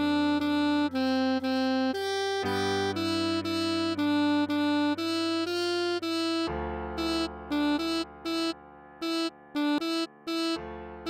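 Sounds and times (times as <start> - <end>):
alto saxophone melody: 0.0 - 11.0
chord accompaniment: 0.0 - 11.0.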